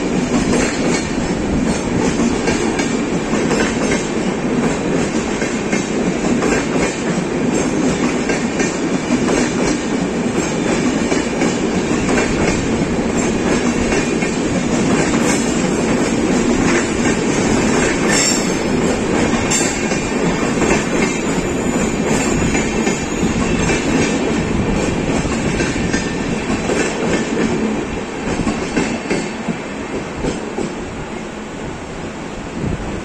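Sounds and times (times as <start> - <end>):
clickety-clack over rail joints: 0.0 - 30.8
train wheels rumbling on rail: 0.0 - 33.0.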